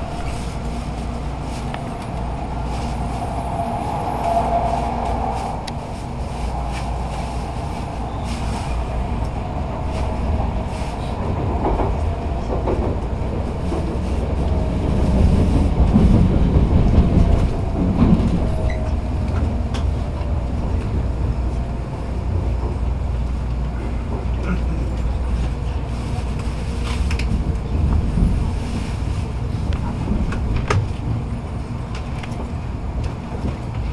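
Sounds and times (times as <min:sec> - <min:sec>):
train running rumble: 0:00.0 - 0:33.9.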